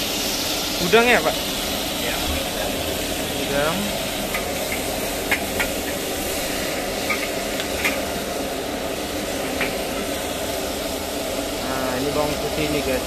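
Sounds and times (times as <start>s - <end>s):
shrimp frying in a wok: 0.0s - 13.0s.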